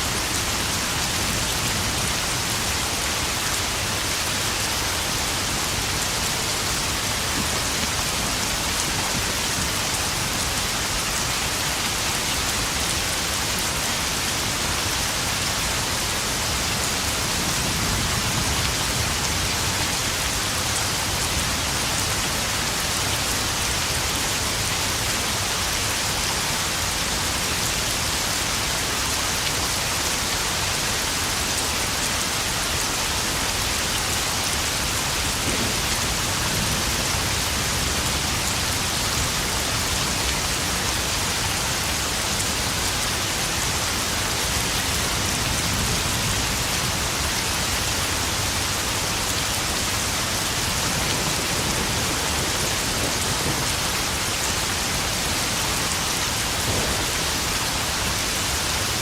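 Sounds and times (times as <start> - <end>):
heavy rain on puddles: 0.0 - 59.0.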